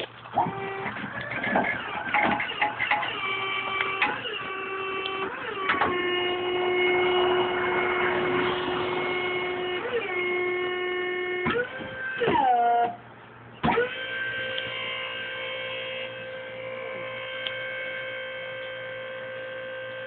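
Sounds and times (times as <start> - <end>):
hydraulic pump motor whining: 0.0 - 20.0.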